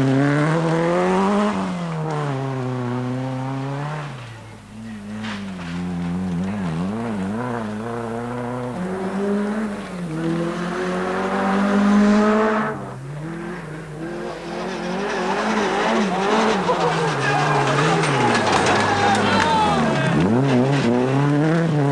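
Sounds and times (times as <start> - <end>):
rally car engine revving: 0.0 - 21.9.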